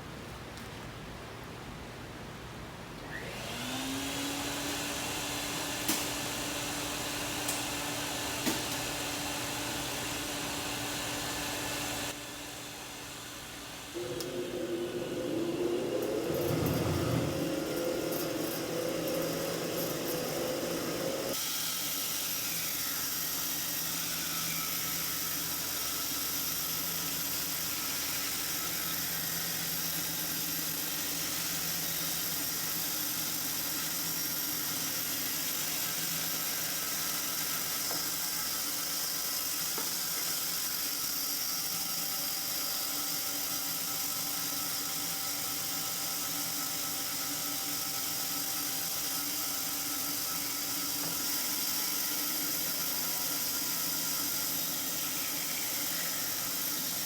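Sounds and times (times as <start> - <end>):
woodworking machine motor running: 3.1 - 57.0.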